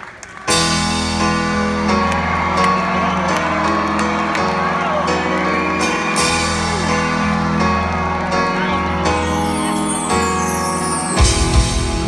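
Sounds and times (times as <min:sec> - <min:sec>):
live rock band with piano: 0:00.0 - 0:12.0
audience cheering and whooping: 0:01.0 - 0:12.0.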